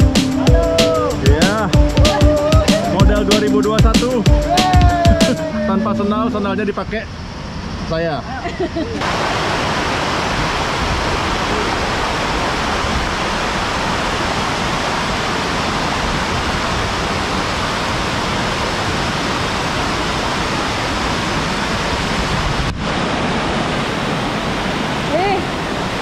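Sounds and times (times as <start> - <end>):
waterfall and river rushing: 0.0 - 26.0.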